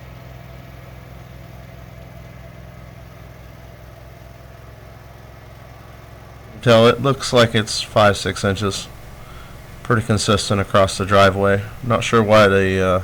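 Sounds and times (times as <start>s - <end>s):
tractor engine humming: 1.8s - 13.0s.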